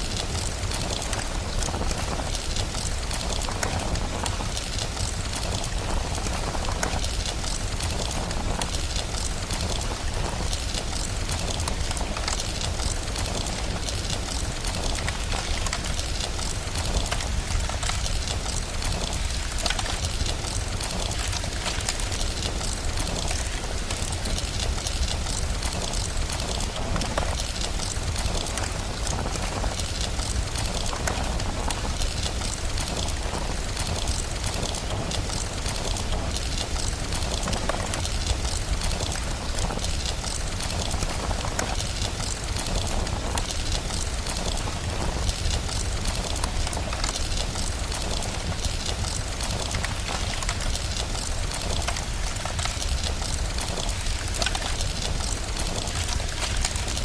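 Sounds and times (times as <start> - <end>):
fire crackling: 0.0 - 57.0
steady rain: 0.0 - 57.0.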